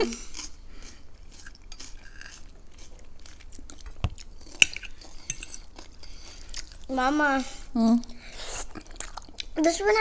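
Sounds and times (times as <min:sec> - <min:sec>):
chewing food: 0:00.1 - 0:07.1, 0:08.1 - 0:09.6.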